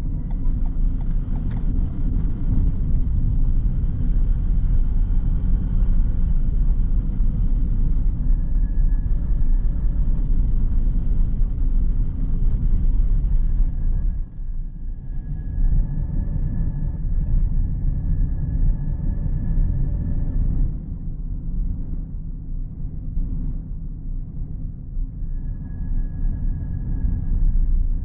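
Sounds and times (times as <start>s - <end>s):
car interior road and engine rumble: 0.0s - 28.0s.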